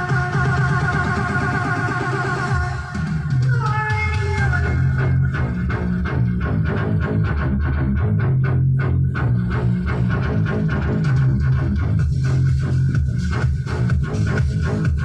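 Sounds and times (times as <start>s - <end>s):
rock music through speakers: 0.0s - 15.0s.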